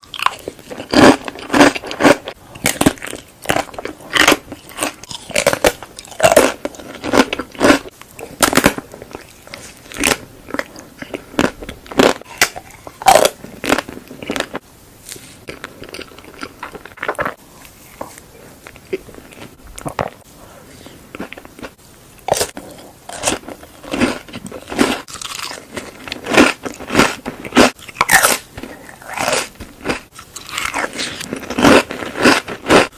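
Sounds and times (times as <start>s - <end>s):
crunchy food being chewed: 0.0s - 32.9s.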